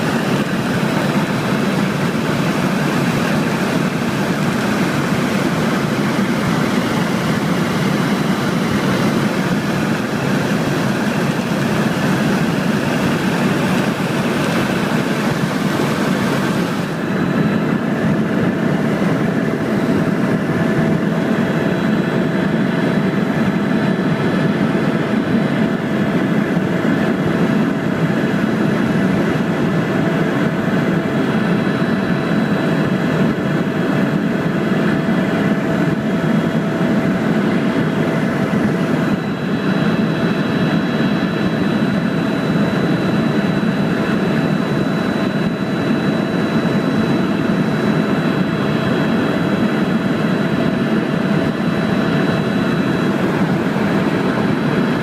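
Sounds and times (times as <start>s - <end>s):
helicopter engine and rotor noise: 0.0s - 55.0s
turbine high whine: 0.0s - 55.0s.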